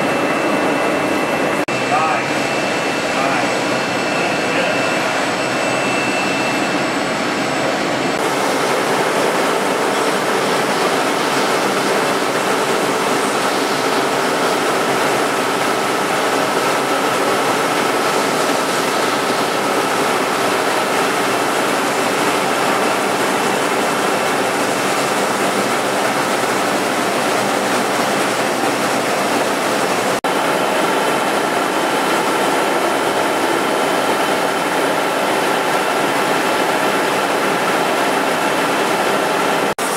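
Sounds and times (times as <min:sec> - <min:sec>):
machine hums: 0:00.0 - 0:39.9
machine running loudly: 0:00.0 - 0:39.9.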